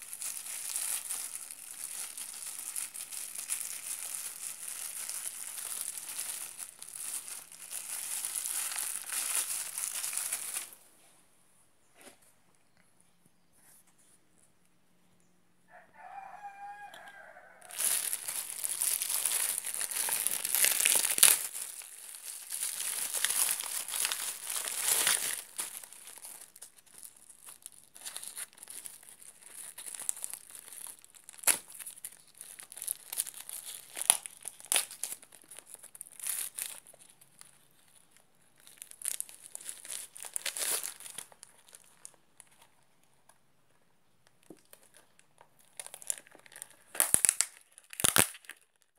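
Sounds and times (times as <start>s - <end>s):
plastic ripping: 0.0s - 10.8s, 17.7s - 42.8s, 44.4s - 48.9s
plastic packaging crinkling: 0.0s - 10.9s, 16.0s - 48.9s.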